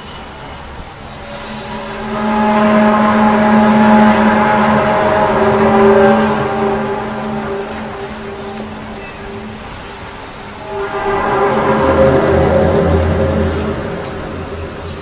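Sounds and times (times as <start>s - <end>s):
deep horn-like drone: 0.9s - 15.0s.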